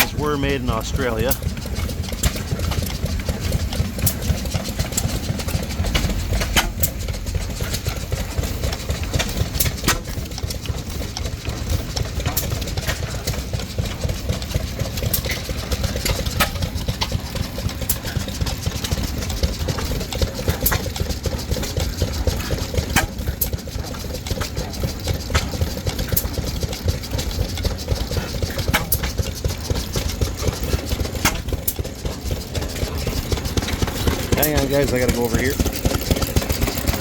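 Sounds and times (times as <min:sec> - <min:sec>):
stationary engines running: 0:00.0 - 0:37.0.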